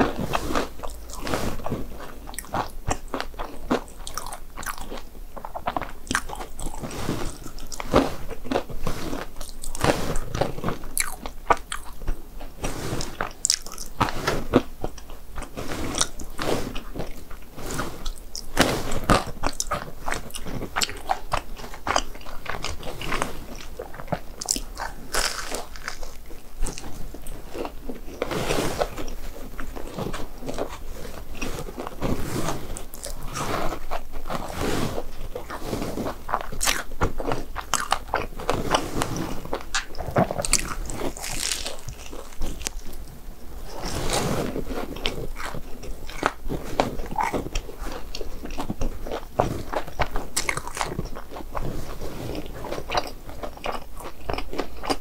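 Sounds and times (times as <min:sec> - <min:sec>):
crunchy food chewing: 0:00.0 - 0:55.0.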